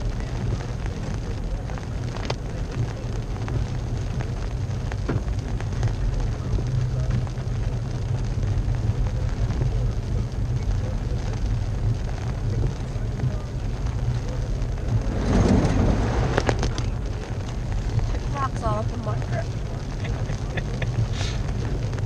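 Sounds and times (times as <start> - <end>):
engine and tyres rumbling: 0.0 - 22.0.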